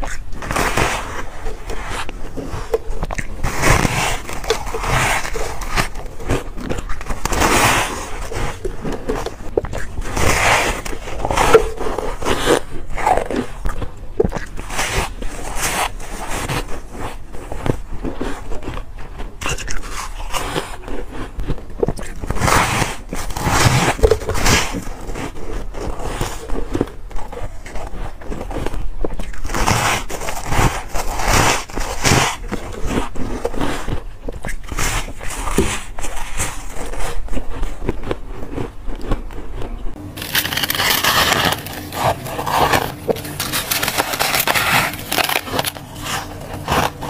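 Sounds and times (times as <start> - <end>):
chewing crunchy frost: 0.0 - 47.0.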